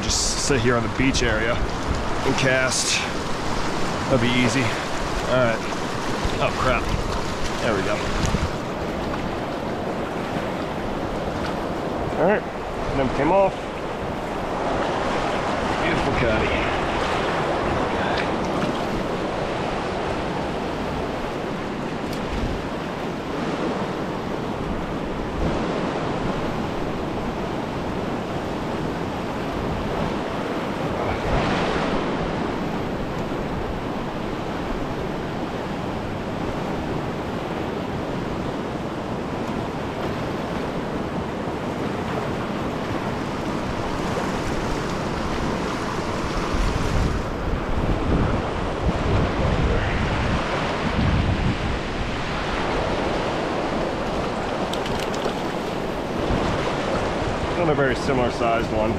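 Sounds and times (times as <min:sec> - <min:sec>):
river rushing through rapids: 0:00.0 - 0:58.9.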